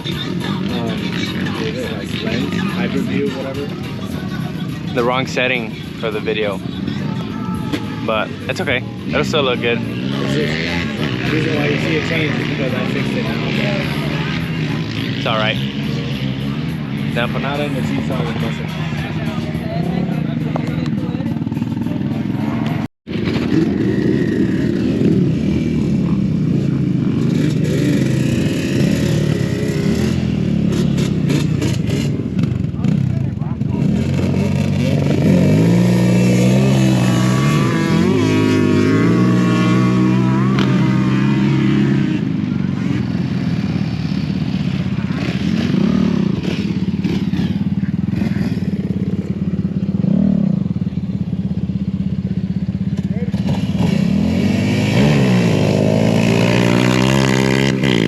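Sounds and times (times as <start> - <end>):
atv engines revving: 0.0 - 58.0.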